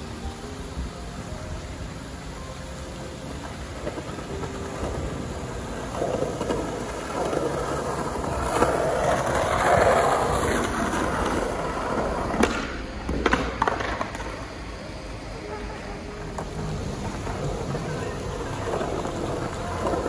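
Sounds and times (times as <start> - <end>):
skateboard wheels rolling on stone: 0.0 - 20.0
skateboard clack: 3.3 - 14.8, 15.4 - 20.0.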